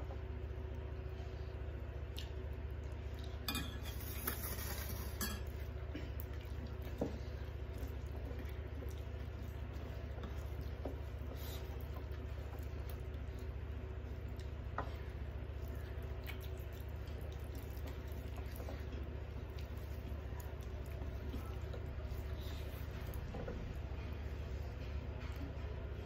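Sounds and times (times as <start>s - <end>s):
hands mixing food on plates: 0.0s - 26.0s
steady low hum: 0.0s - 26.0s.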